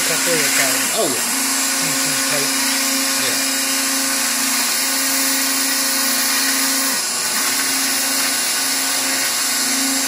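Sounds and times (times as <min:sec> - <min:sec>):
router spindle whining: 0:00.0 - 0:10.0.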